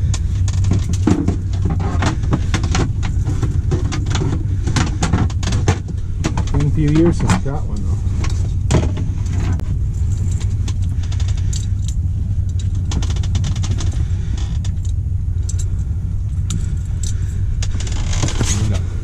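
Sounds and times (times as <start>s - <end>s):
loud low hum: 0.0s - 19.0s.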